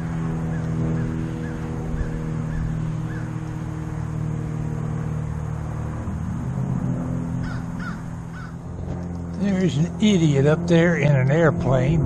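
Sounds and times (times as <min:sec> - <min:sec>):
propeller engine droning overhead: 0:00.0 - 0:12.0.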